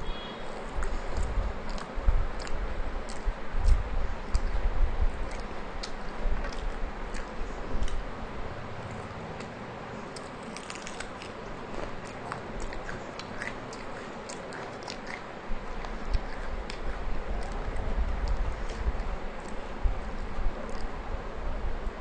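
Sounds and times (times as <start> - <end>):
chewing and biting: 0.5 - 8.1, 8.8 - 21.0.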